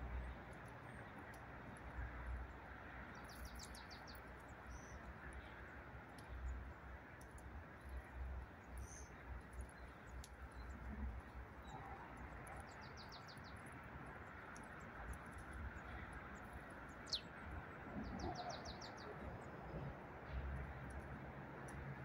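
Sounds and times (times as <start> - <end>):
distant road traffic: 0.0 - 22.0
small birds calling: 0.9 - 19.6.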